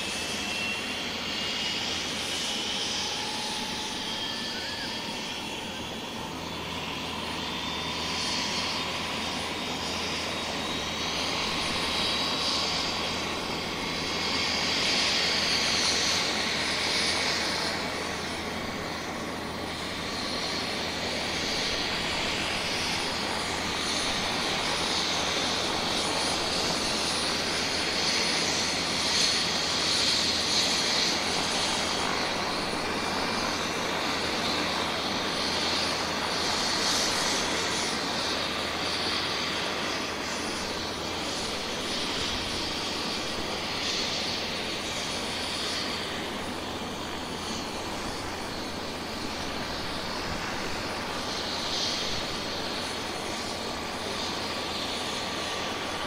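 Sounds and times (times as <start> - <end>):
helicopter rotor rush: 0.0 - 56.0
helicopter turbine whine: 0.0 - 56.0.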